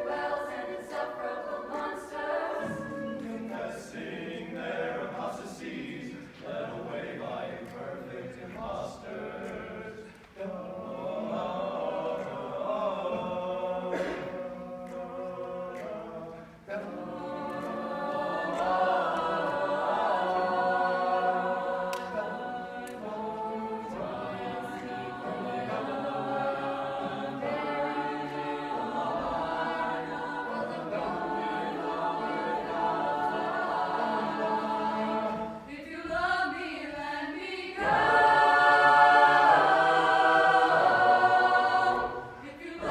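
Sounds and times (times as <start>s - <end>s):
choir singing a cappella: 0.0s - 42.9s.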